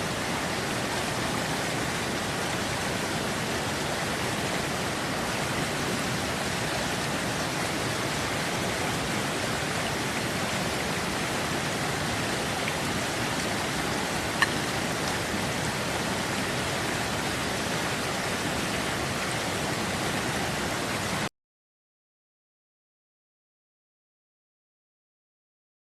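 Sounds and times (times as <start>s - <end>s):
river water rushing: 0.0s - 21.3s.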